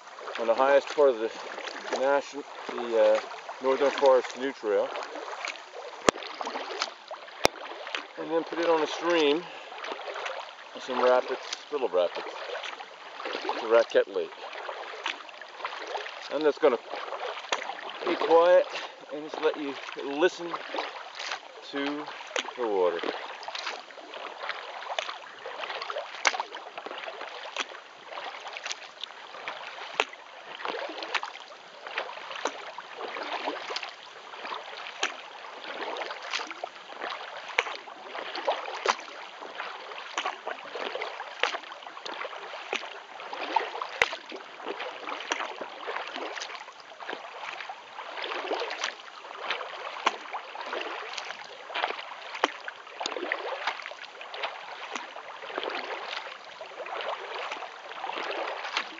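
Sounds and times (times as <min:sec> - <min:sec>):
kayak paddle strokes in water: 0:00.0 - 0:58.9.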